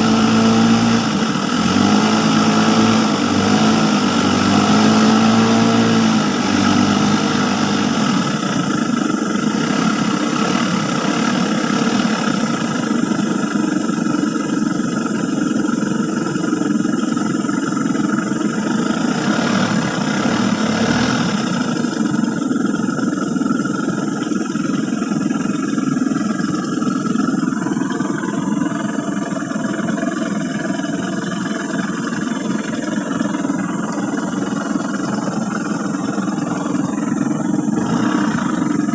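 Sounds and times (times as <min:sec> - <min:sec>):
loud engine running: 0:00.0 - 0:38.9.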